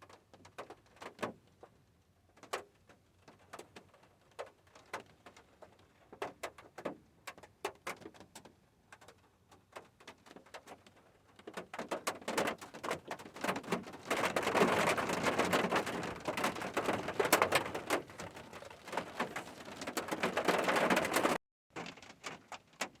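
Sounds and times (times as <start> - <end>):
rain on a hard surface: 0.0 - 23.0.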